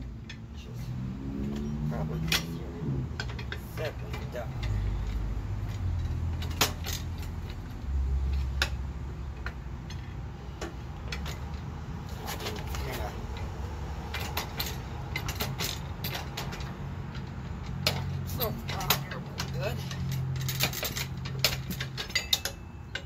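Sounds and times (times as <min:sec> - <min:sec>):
metal clicks and clanks: 0:00.0 - 0:23.0.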